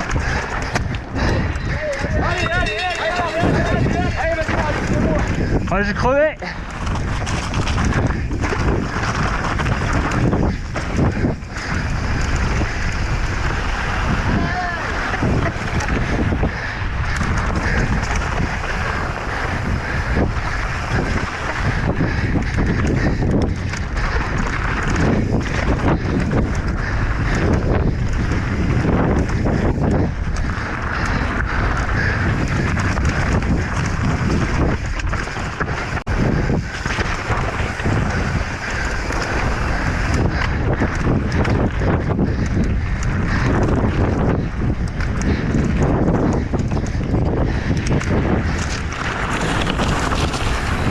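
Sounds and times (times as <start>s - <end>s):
bike rattles and knocks: 0.0s - 50.9s
bike rumble: 0.0s - 50.9s
wind buffeting microphone: 0.0s - 50.9s.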